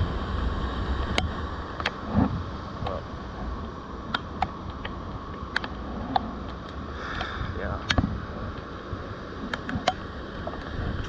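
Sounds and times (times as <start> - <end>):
surf and wind rushing: 0.0 - 11.0.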